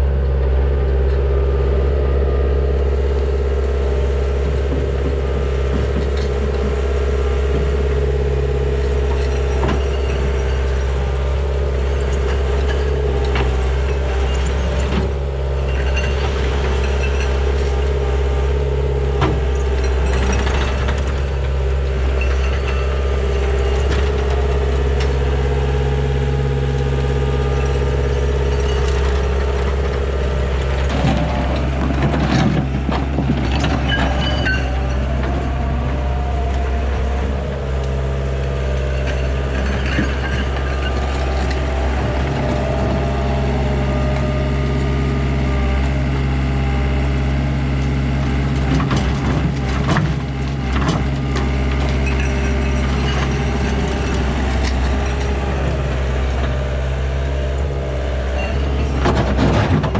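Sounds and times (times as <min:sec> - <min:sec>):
diesel engine running: 0:00.0 - 0:59.9
clanking and scraping: 0:03.8 - 0:46.7, 0:47.7 - 0:59.9.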